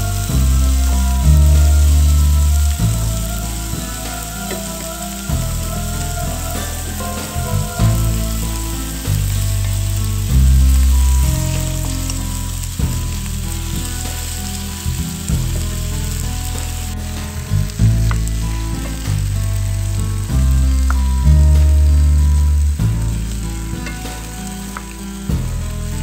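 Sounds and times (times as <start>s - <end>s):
background music with bass notes: 0.0s - 26.0s
meat sizzling in frying pan: 0.0s - 26.0s.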